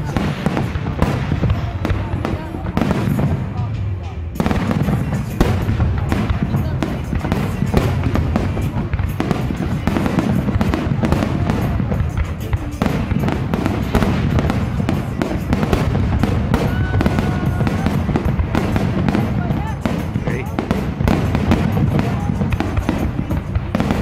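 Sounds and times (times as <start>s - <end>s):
fireworks booming and crackling: 0.0s - 24.0s.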